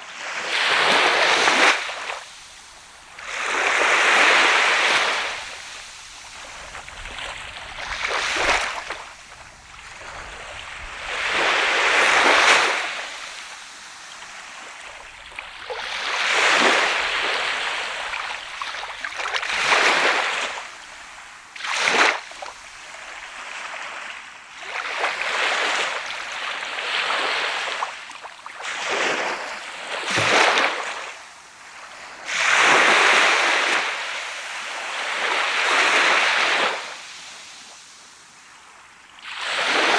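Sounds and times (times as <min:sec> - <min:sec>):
sea waves breaking on beach: 0:00.0 - 0:38.5, 0:39.1 - 0:39.9.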